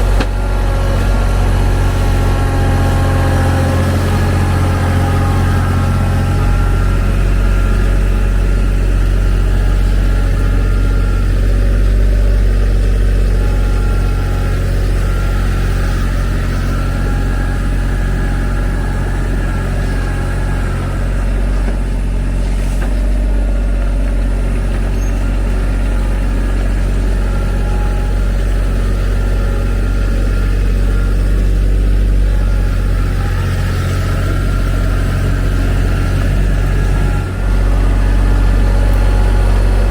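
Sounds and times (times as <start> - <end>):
small diesel tractor engine running: 0.0 - 39.9.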